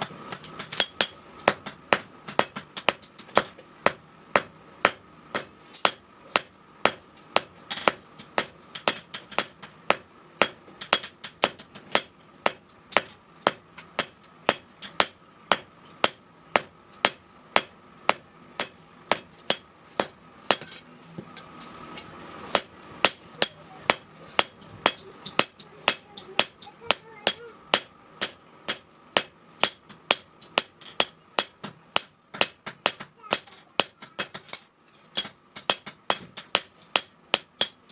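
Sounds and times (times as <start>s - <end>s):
hammer striking steel on anvil: 0.0s - 37.9s.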